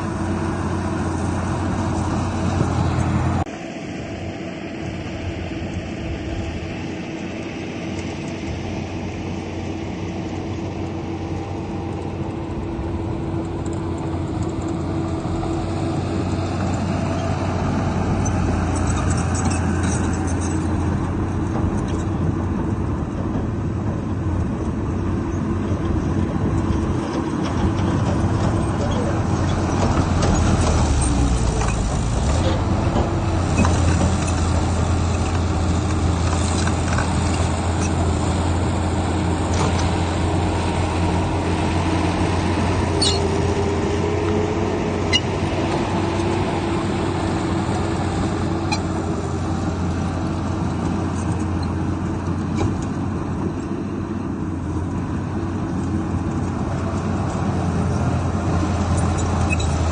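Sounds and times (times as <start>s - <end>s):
diesel machinery running: 0.0s - 59.9s.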